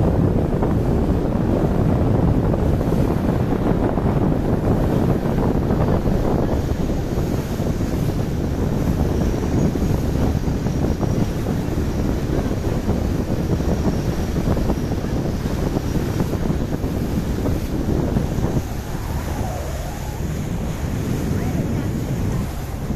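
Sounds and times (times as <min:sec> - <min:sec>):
boat engine rumble: 0:00.0 - 0:22.9
wind buffeting microphone: 0:00.0 - 0:22.9.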